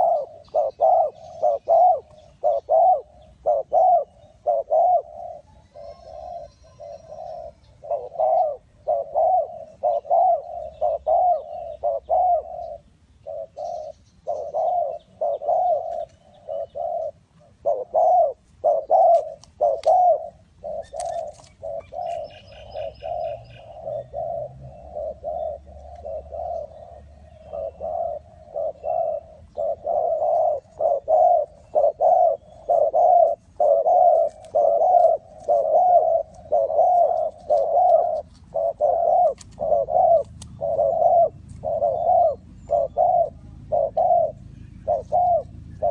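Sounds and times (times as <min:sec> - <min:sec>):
dove cooing: 0:00.0 - 0:45.9
small birds chirping: 0:00.0 - 0:45.9.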